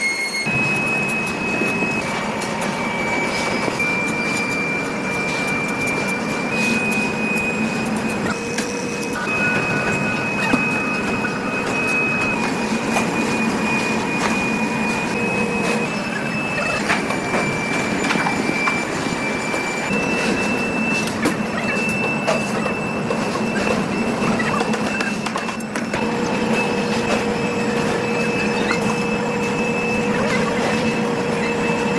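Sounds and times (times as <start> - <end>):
heavy factory machinery running: 0.0 - 31.9
high machine whine: 0.0 - 31.9.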